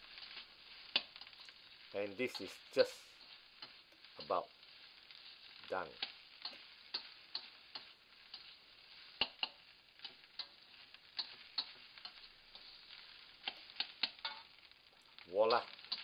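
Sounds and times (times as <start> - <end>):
faint sizzle: 0.0 - 16.0
metal spatula scraping a wok: 0.0 - 16.0.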